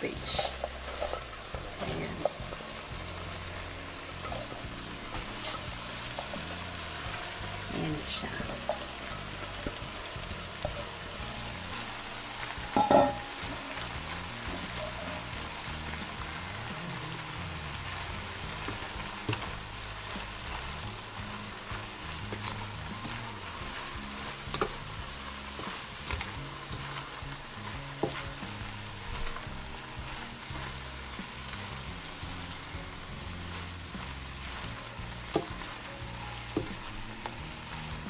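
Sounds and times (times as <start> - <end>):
food sizzling in a pot: 0.0 - 38.0.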